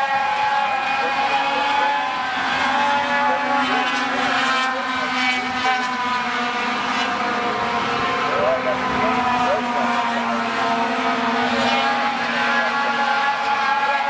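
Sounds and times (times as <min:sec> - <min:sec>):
race truck engines: 0:00.0 - 0:14.0.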